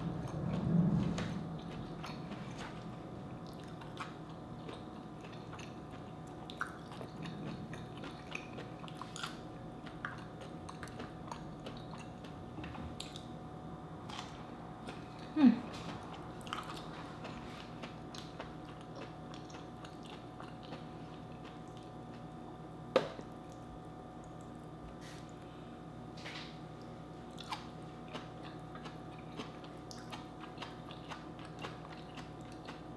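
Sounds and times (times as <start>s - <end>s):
chewing vegetables: 0.0s - 25.5s, 26.3s - 32.9s
closed-mouth hum: 0.0s - 32.9s.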